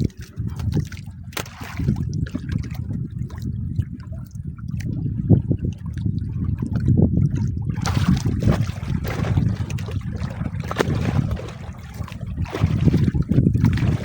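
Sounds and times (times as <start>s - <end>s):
rush of water: 0.0s - 3.9s, 4.7s - 14.0s
steady low rumble: 0.0s - 14.0s
water lapping against boat: 0.0s - 14.0s.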